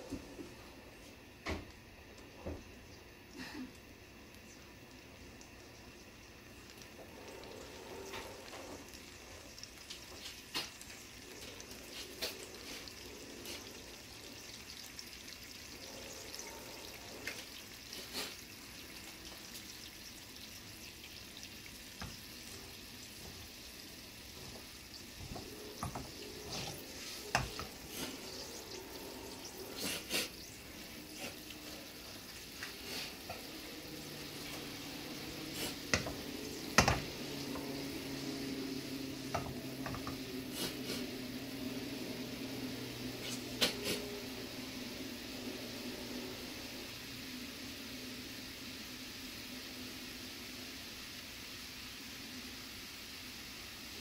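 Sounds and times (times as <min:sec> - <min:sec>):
broth hissing in a pan: 0:00.0 - 0:54.0.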